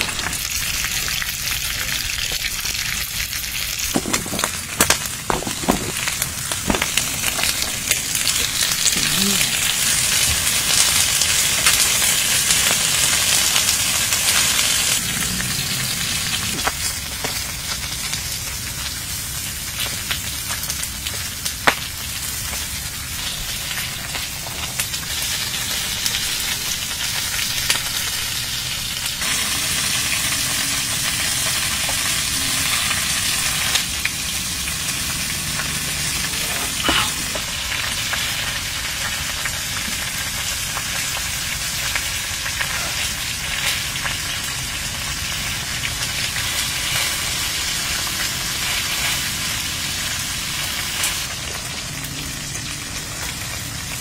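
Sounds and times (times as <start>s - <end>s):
meat sizzling with sharp pops: 0.0s - 54.0s.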